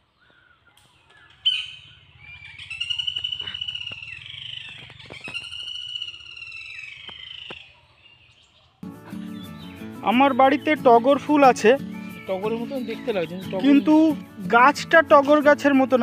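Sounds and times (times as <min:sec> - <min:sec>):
bird shrill trilling calls: 0:00.2 - 0:14.6.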